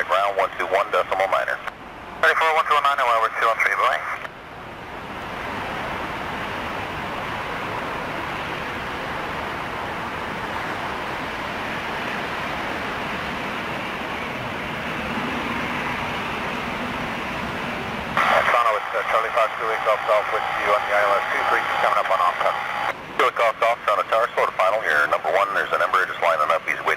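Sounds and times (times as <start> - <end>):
jet engines running: 0.0 - 26.9.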